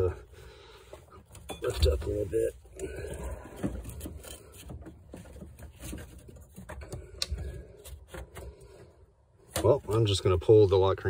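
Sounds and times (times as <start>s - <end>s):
hands handling plastic parts: 0.9s - 10.2s.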